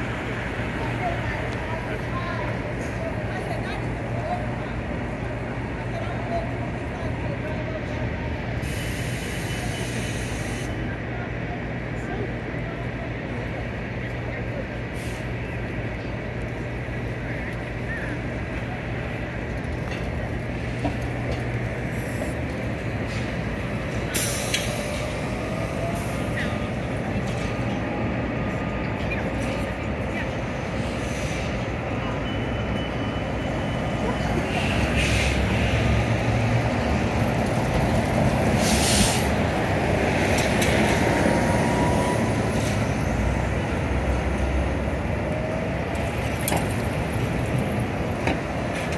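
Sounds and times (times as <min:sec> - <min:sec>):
street rumble: 0:00.0 - 0:48.9
trolleybus drive whine: 0:00.0 - 0:48.9.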